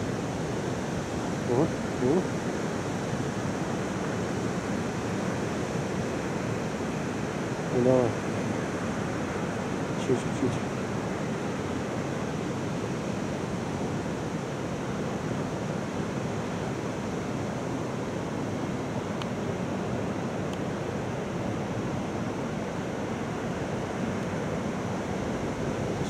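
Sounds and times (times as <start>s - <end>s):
water: 0.0s - 26.0s
wind: 0.0s - 26.0s.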